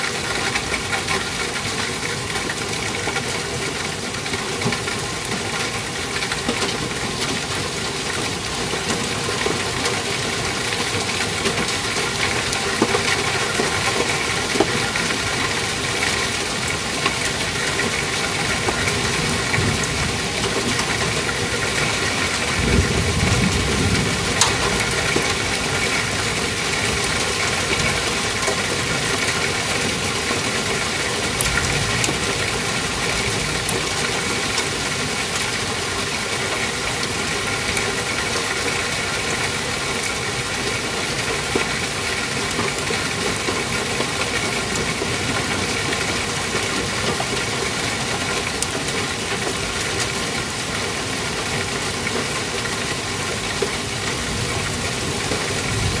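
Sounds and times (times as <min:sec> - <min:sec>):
hail and rain pattering: 0:00.0 - 0:56.0.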